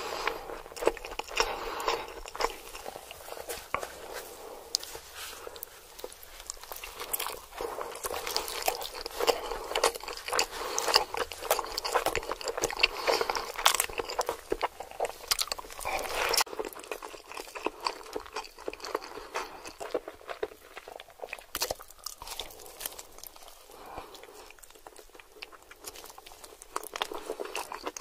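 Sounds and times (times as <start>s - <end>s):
biting and chewing sandwich: 0.0s - 28.0s.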